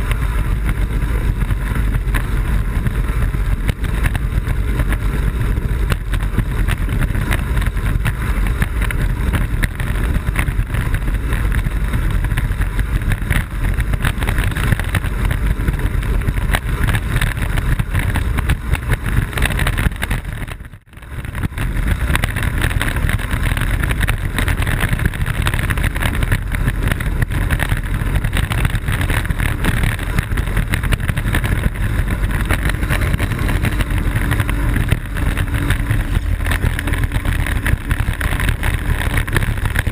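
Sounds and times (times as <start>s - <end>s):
land yacht rolling noise: 0.0s - 39.9s
wind on microphone: 0.0s - 39.9s.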